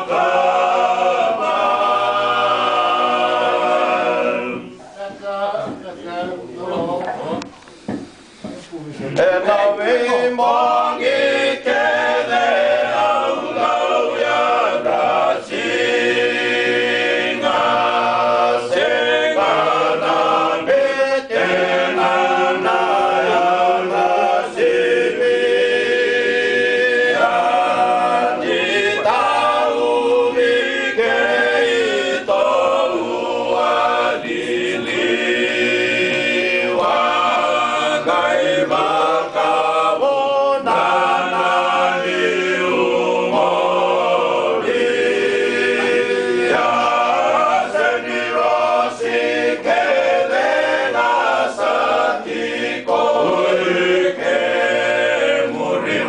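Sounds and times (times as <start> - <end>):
men's group chanting in harmony: 0.0 - 4.9, 9.2 - 56.0.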